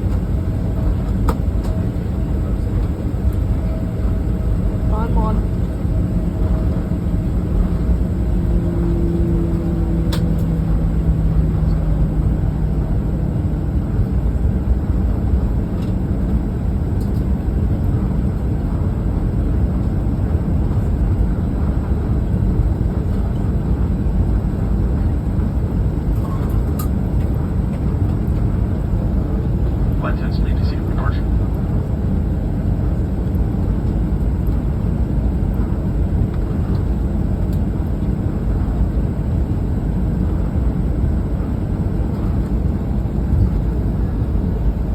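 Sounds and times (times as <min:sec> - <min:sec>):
airplane cabin engine rumble: 0:00.0 - 0:44.9
steady hum: 0:00.0 - 0:44.9.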